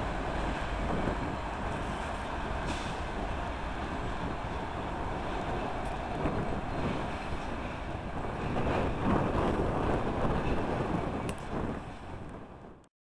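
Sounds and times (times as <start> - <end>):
freight train wagons rumbling on rails: 0.0 - 12.8
wind buffeting microphone: 0.0 - 12.8.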